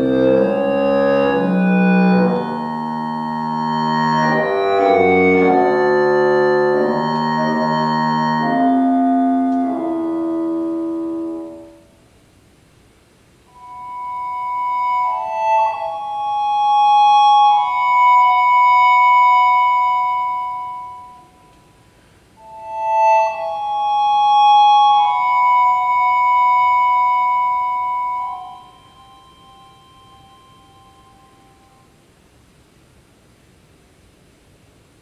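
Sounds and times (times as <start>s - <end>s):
synthesized held notes: 0.0s - 12.2s, 13.4s - 32.1s.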